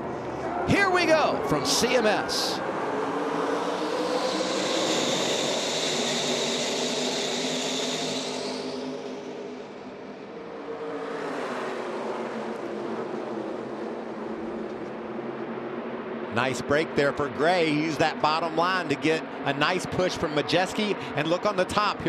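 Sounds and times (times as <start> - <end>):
race trucks passing at speed: 0.0 - 21.7.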